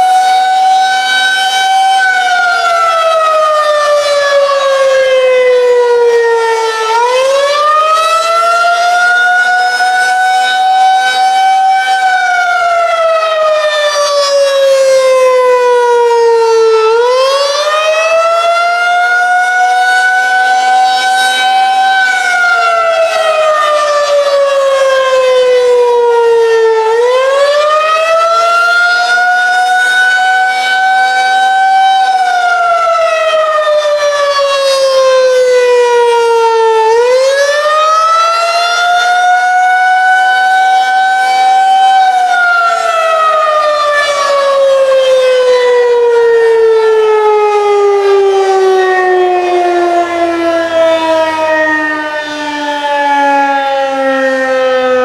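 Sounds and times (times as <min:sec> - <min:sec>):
wailing tornado siren: 0:00.0 - 0:55.0.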